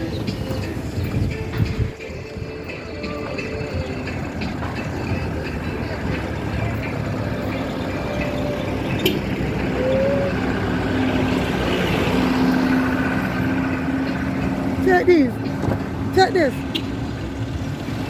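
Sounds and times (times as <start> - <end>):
motor vehicle running: 0.0 - 18.0.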